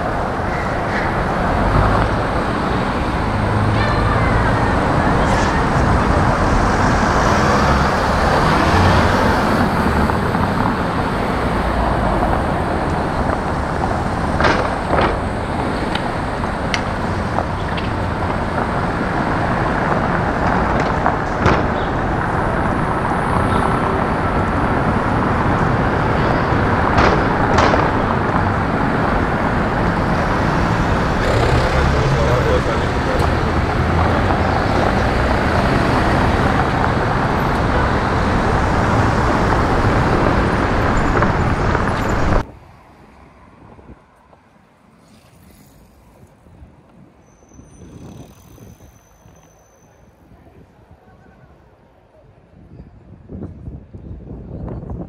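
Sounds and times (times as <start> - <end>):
passing vehicles rumble: 0.0 - 55.0.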